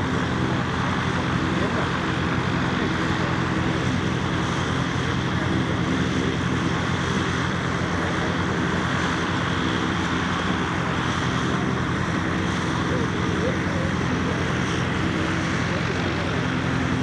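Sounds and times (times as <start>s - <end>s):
light aircraft engine and propeller: 0.0s - 17.0s.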